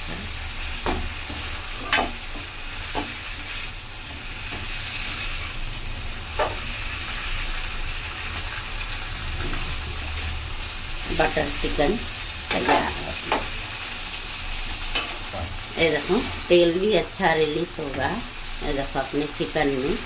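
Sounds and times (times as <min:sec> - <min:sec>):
chicken sizzling in oil: 0:00.0 - 0:20.0.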